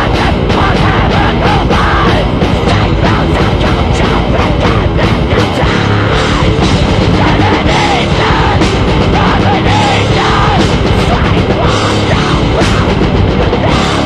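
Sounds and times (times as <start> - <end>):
distorted electric guitars: 0.0 - 14.0
fast drumming: 0.0 - 14.0.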